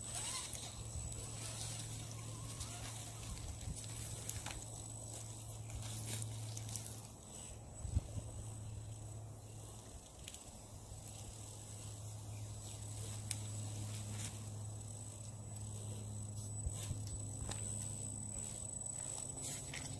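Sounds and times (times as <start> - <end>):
insect buzz: 0.0 - 19.9.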